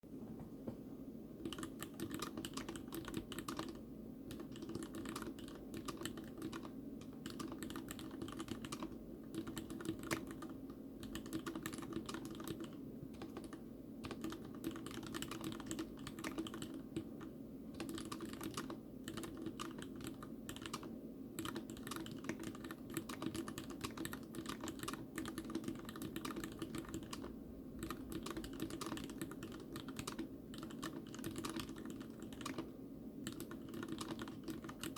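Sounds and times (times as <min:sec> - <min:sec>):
mechanical keyboard typing: 0:01.4 - 0:34.9.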